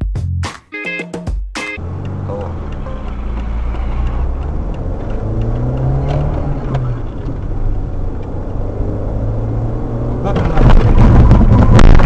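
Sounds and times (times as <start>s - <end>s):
car engine running: 1.8s - 12.0s.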